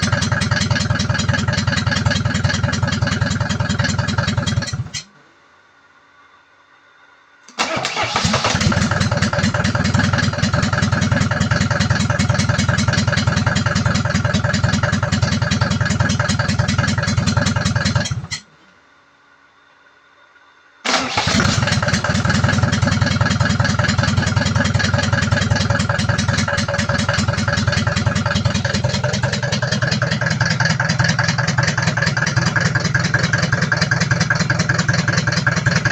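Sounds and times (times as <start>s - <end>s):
tractor engine running: 0.0s - 5.0s, 7.6s - 18.4s, 20.9s - 35.9s.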